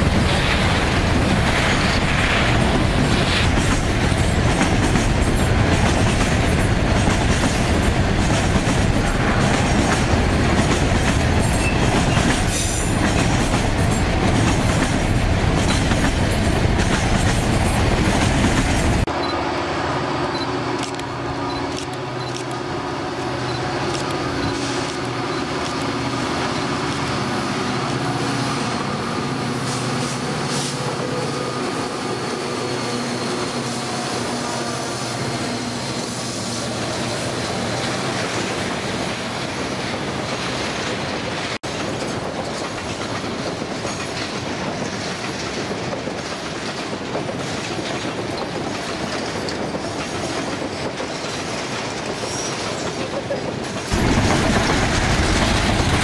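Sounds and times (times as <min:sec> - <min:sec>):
train wheels clacking and squealing: 0:00.0 - 0:19.4, 0:20.3 - 0:56.0
diesel locomotive engine drone: 0:00.0 - 0:56.0.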